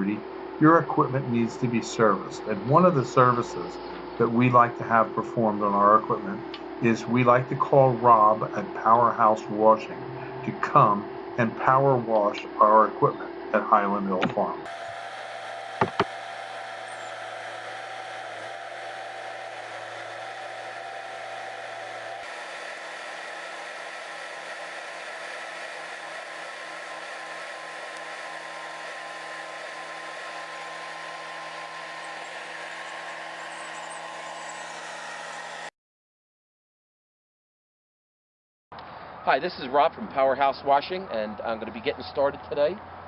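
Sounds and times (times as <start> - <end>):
pressure washer running: 0.0 - 35.7.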